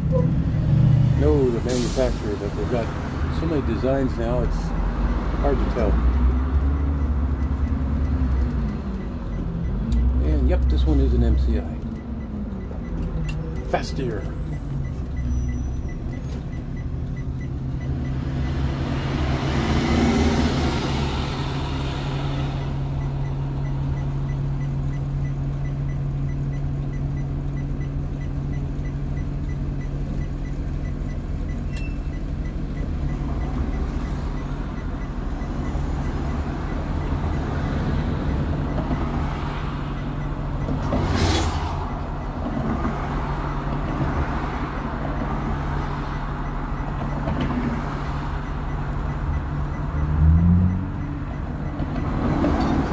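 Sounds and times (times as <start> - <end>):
vehicles passing: 0.0 - 52.9.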